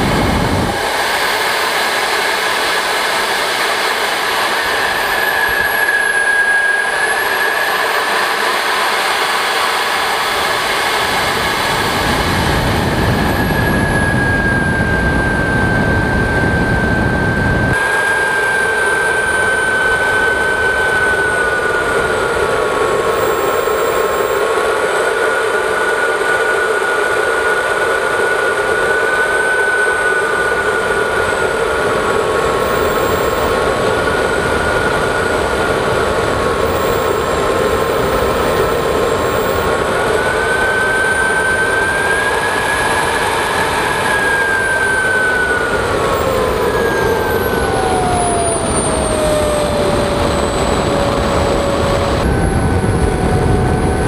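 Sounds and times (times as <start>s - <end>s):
jet turbine whining: 0.0s - 54.0s.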